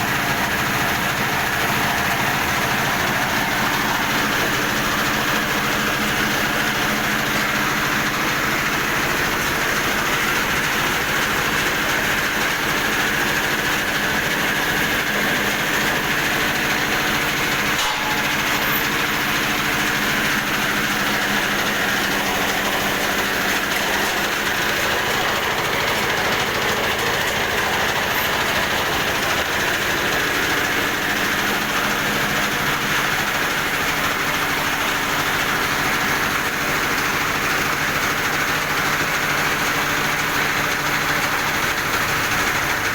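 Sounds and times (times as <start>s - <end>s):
mill machine running: 0.0s - 42.9s.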